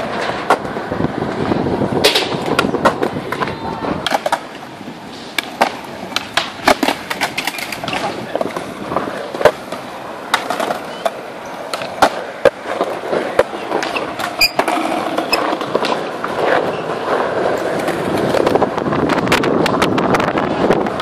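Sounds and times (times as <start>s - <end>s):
skateboard clacking on ground: 0.0s - 21.0s
skateboard wheels rolling on concrete: 0.0s - 21.0s.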